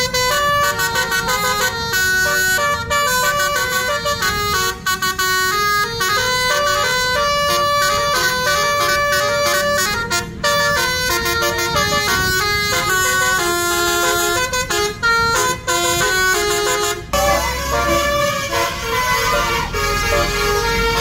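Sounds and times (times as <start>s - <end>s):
musical air horn playing a tune: 0.0s - 21.0s.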